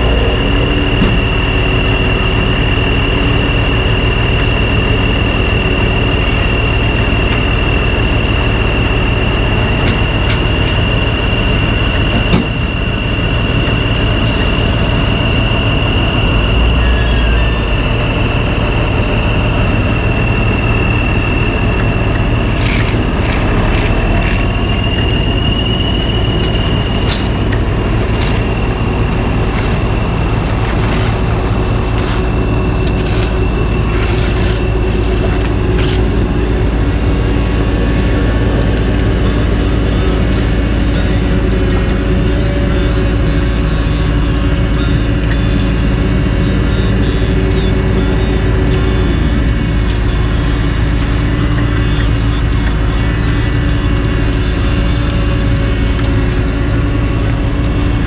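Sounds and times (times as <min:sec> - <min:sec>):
diesel truck engine rumbling: 0:00.0 - 0:58.0
thin high whine: 0:00.0 - 0:58.0.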